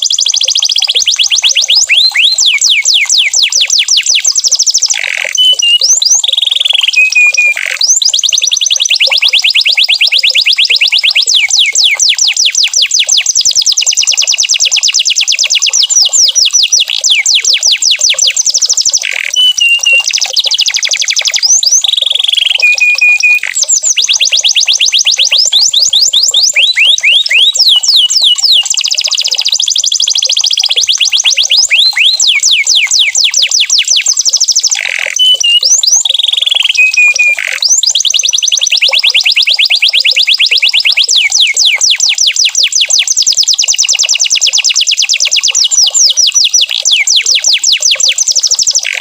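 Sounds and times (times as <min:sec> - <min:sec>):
canary held whistles: 0:00.0 - 0:12.7, 0:15.9 - 0:43.6, 0:45.7 - 0:49.0
canary singing trills: 0:00.0 - 0:49.0.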